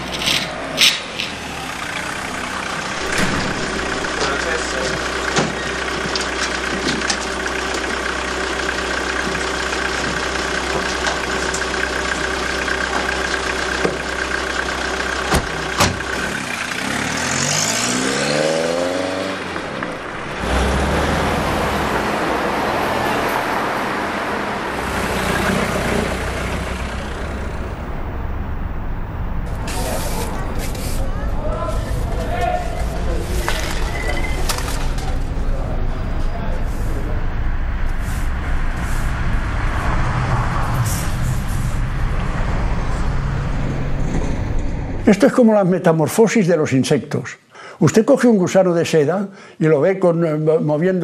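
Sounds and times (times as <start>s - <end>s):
street traffic noise: 0.0s - 45.2s
taxi engine idling: 0.0s - 45.2s
engine accelerating: 1.1s - 45.2s.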